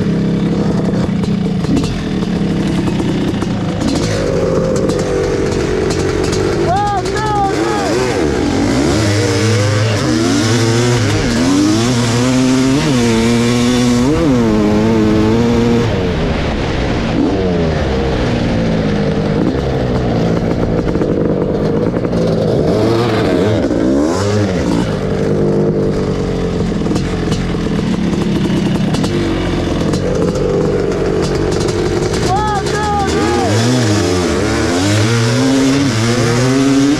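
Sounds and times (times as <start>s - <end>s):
two-stroke engine revving: 0.0s - 36.9s.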